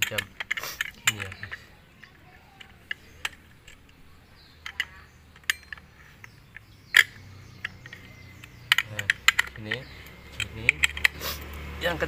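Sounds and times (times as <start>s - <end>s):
metal clicks of tightening nut: 0.0s - 11.2s.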